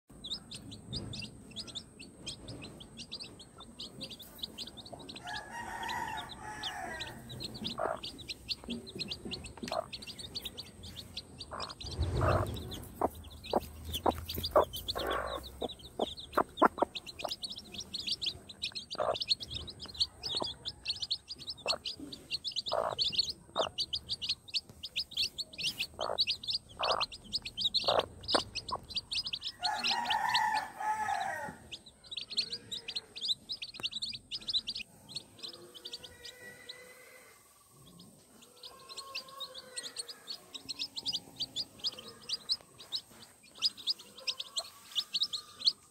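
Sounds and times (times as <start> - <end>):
chicks peeping: 0.1 - 45.9
hen clucking: 0.1 - 45.9.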